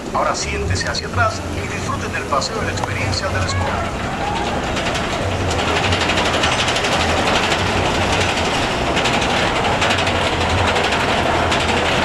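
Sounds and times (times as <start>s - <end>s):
roller coaster wheels clattering: 0.0s - 12.0s.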